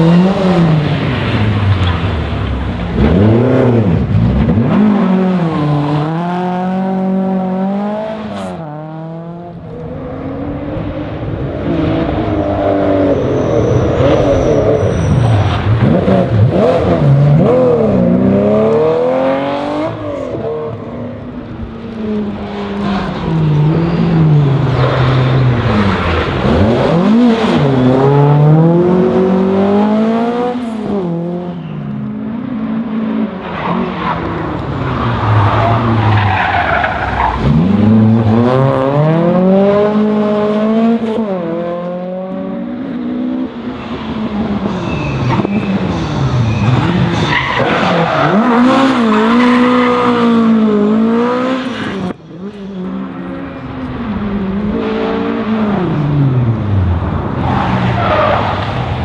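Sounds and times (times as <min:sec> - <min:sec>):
rally car engines revving past: 0:00.0 - 0:59.0.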